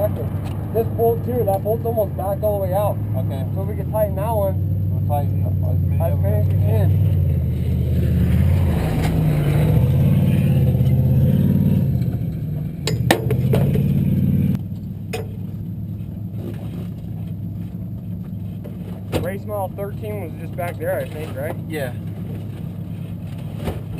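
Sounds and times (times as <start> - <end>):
race vehicle engine running: 0.0 - 23.9.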